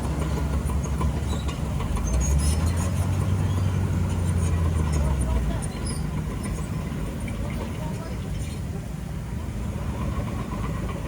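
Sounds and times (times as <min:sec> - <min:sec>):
heavy diesel engine drone: 0:00.0 - 0:11.0.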